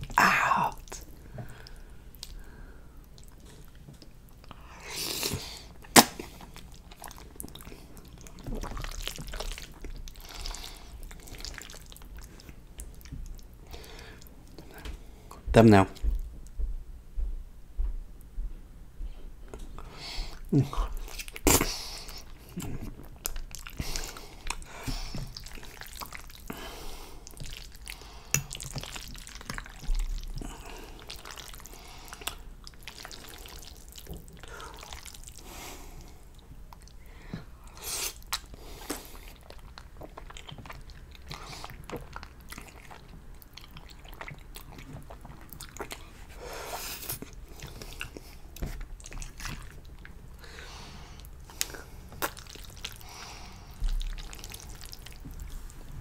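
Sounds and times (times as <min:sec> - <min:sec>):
chewing and slurping noodles: 0:03.2 - 0:14.8, 0:20.3 - 0:37.0, 0:37.6 - 0:56.0.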